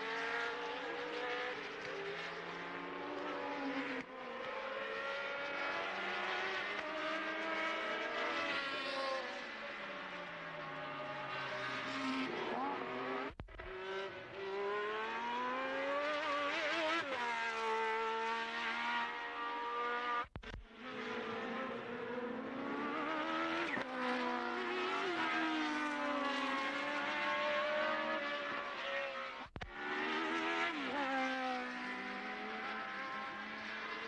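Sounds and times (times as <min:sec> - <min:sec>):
racing car engines revving: 0:00.0 - 0:34.0.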